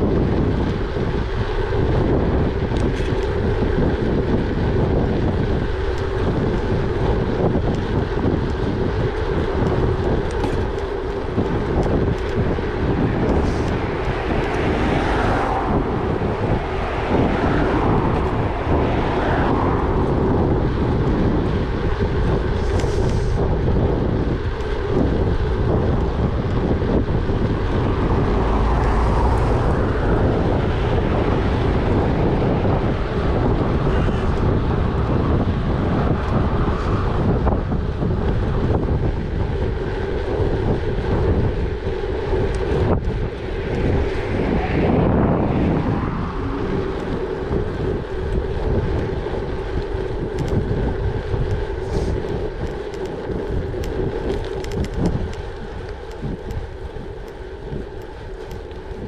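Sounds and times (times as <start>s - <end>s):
bike tyres rumbling: 0.0s - 59.0s
wind buffeting microphone: 0.0s - 59.0s.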